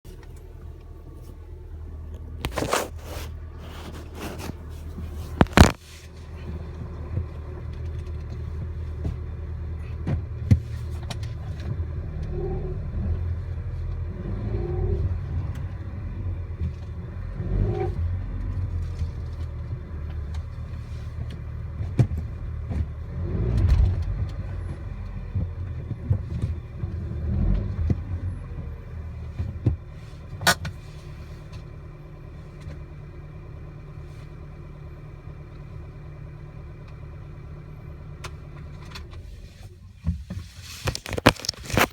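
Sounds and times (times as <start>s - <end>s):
car engine humming: 0.0s - 39.7s.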